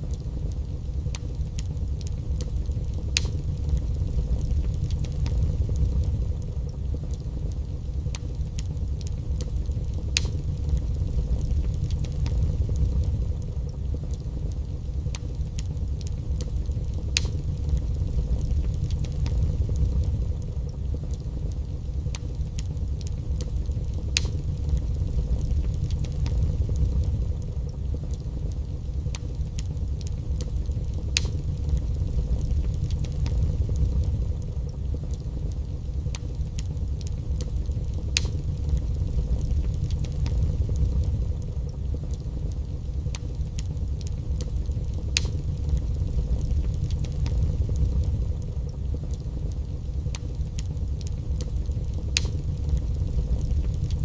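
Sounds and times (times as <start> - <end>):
fire crackling and popping: 0.0 - 54.0
fire rumbling: 0.0 - 54.0.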